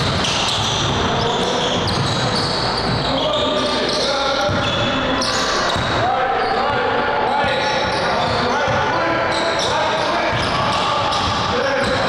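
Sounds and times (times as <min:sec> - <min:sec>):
people's voices: 0:00.0 - 0:12.0.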